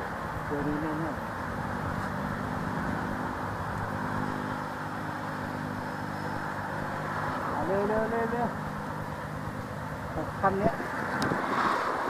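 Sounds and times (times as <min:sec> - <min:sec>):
road traffic hiss: 0:00.0 - 0:12.0
vehicle engine humming: 0:00.0 - 0:12.0.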